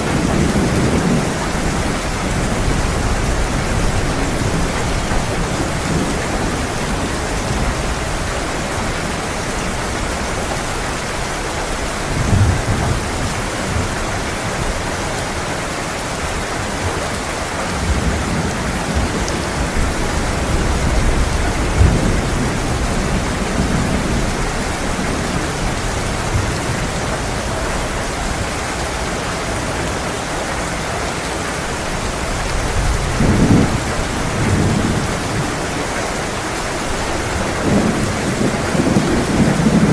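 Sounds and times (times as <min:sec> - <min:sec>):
thunder rumbling: 0:00.0 - 0:14.8, 0:16.6 - 0:29.2, 0:31.7 - 0:39.9
heavy rain pouring: 0:00.0 - 0:39.9.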